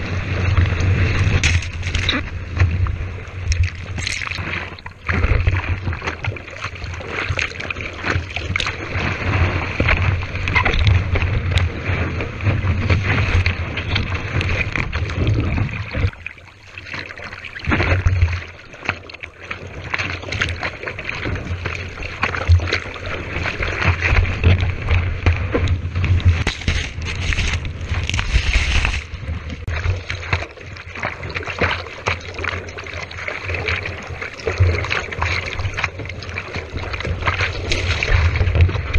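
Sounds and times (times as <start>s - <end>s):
low rumble of water on camera: 0.0s - 38.9s
seawater splashing and sloshing: 0.0s - 38.9s.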